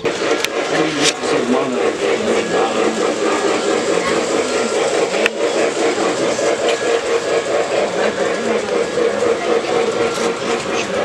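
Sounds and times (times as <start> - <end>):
chatter of many voices: 0.0 - 11.0.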